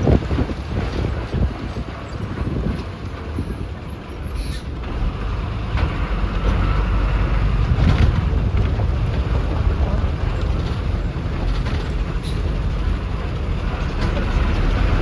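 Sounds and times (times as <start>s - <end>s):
bus engine rumble: 0.0s - 15.0s
road noise: 0.0s - 15.0s.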